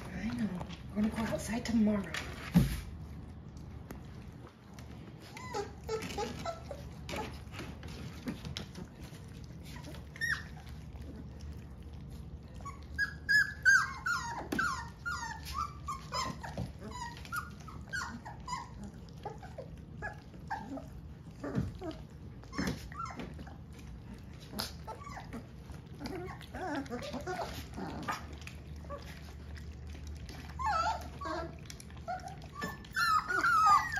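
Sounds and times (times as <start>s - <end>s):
puppies whimpering and squeaking: 0.0s - 33.9s.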